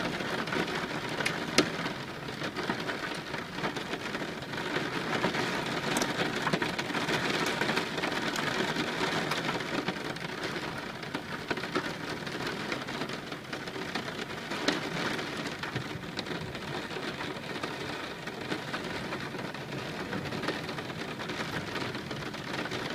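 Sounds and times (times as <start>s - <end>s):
raindrops ticking close by: 0.0s - 22.9s
steady rain falling: 0.0s - 22.9s.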